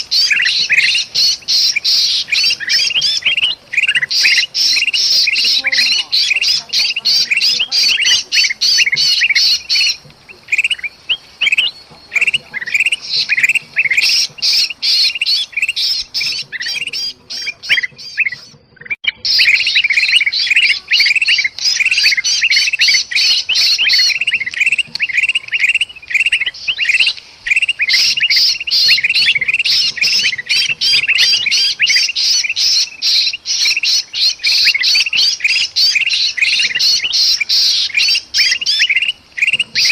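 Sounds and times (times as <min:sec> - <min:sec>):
bird distress calls: 0:00.0 - 0:39.9
birds chirping and squawking: 0:00.0 - 0:39.9.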